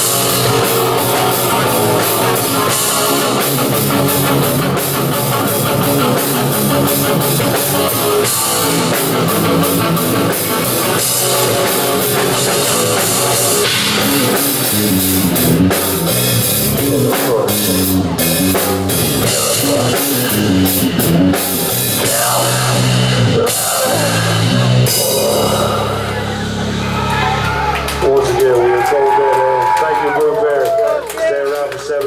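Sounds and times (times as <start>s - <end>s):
drum kit with cymbals: 0.0s - 26.7s
bass line: 0.0s - 30.4s
electric guitar: 0.0s - 31.3s
rock band playing: 0.0s - 32.0s.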